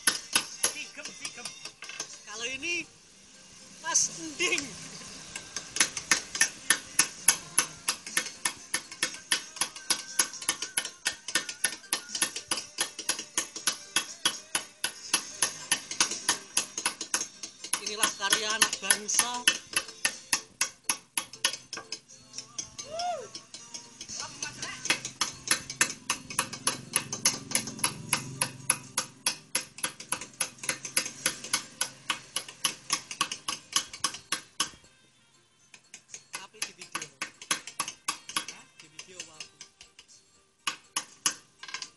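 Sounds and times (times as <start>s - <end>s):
hammer tapping chisel on stone: 0.0s - 2.2s, 5.3s - 34.8s, 35.7s - 41.9s.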